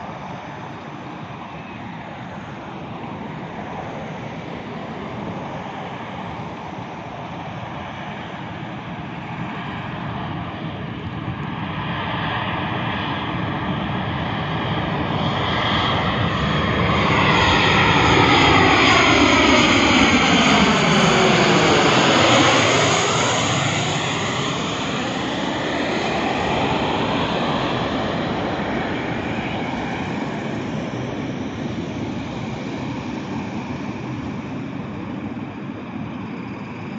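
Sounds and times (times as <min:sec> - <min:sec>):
jet airliner engine noise: 0:00.0 - 0:36.9
jet engine whine falling in pitch: 0:00.0 - 0:36.9.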